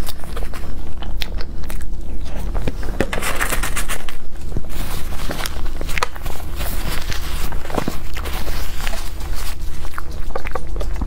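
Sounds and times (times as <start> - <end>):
chewing soft dessert: 0.0 - 11.0
steady low hum: 0.0 - 11.0.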